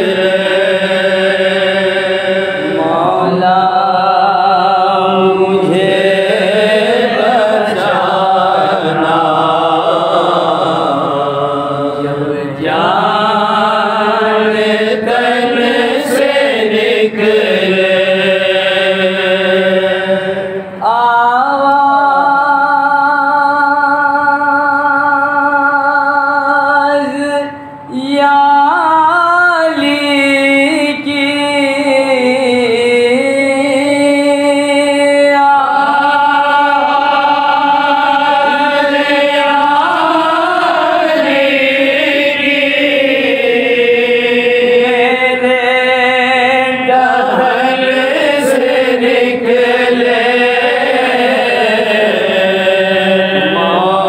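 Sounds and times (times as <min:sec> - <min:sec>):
men chanting a devotional prayer: 0:00.0 - 0:54.0.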